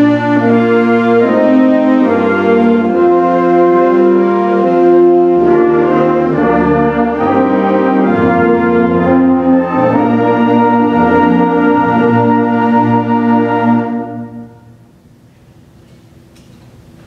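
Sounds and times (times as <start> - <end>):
bass notes: 0.0 - 14.9
brass instruments: 0.0 - 15.0
concert band playing sustained chords: 0.0 - 15.0.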